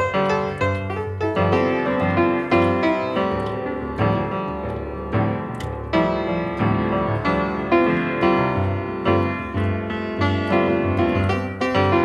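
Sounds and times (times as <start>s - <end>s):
slow gentle piano music: 0.0s - 12.0s.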